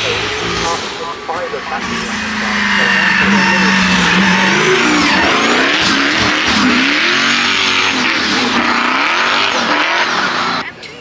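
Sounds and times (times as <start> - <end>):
car engine revving with gear changes: 0.0 - 10.6.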